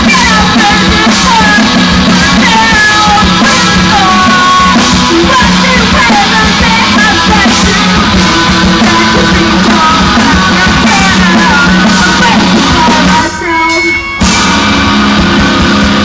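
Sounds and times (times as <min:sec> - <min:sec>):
loud rock band with singer: 0:00.0 - 0:16.0.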